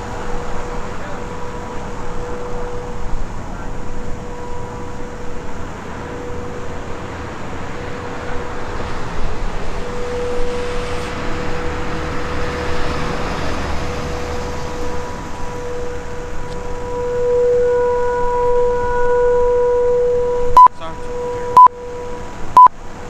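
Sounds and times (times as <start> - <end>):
road traffic: 0.0 - 23.0
warning siren steady tone: 0.0 - 23.0.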